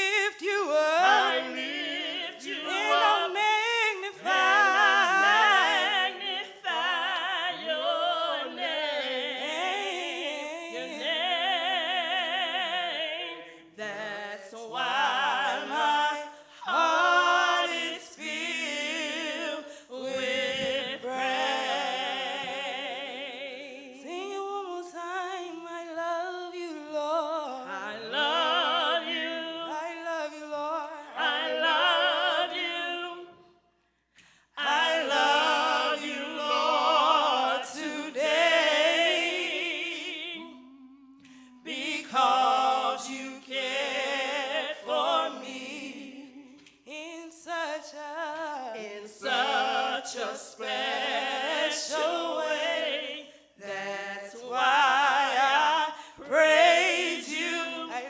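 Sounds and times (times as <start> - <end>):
gospel singers singing: 0.0 - 58.0.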